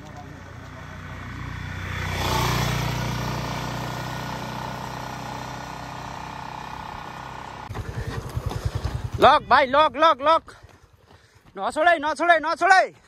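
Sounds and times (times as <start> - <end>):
motorcycle engine running: 0.0 - 11.1.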